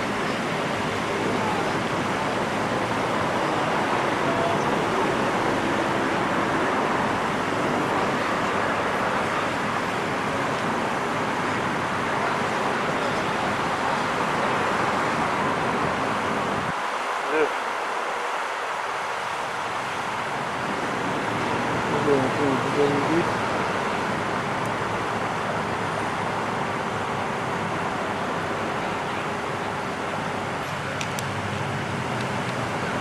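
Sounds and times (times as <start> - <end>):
road traffic rushing: 0.0 - 33.0.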